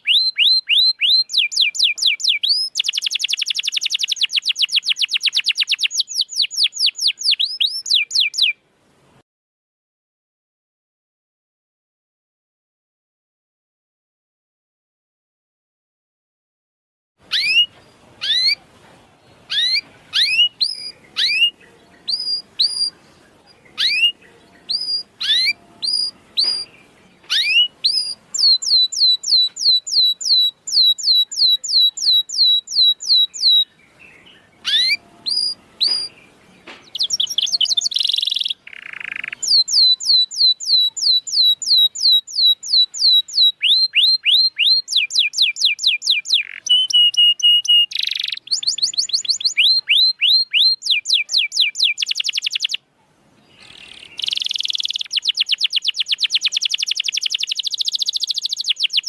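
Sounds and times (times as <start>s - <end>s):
canary singing: 0.0s - 8.6s, 17.2s - 52.8s, 53.4s - 59.0s.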